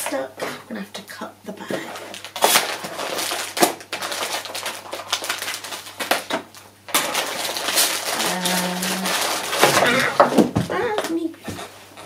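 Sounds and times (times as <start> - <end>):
plastic crinkling: 1.7 - 11.7.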